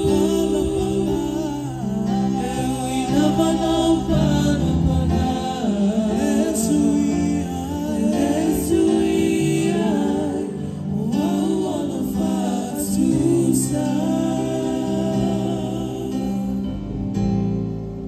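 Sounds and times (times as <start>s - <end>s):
singers performing gospel song: 0.0s - 18.0s.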